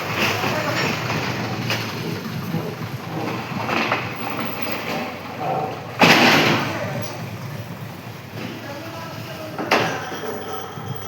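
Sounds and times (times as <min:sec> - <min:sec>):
heavy machinery engine noise: 0:00.0 - 0:11.0.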